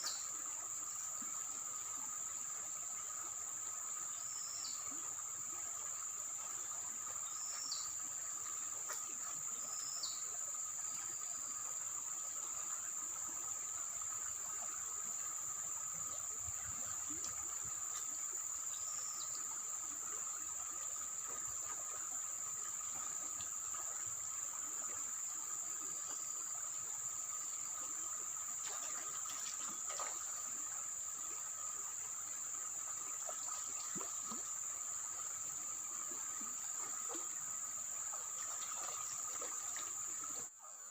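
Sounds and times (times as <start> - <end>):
insects droning: 0.0 - 40.9
short insect chirps: 6.7 - 40.9.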